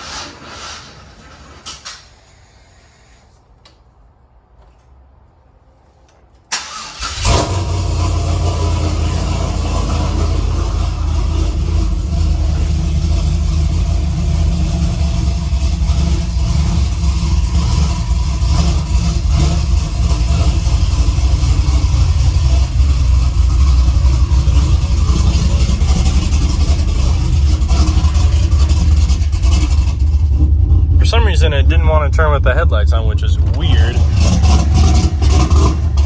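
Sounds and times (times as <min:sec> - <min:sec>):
pickup truck engine idling: 0:06.6 - 0:36.0.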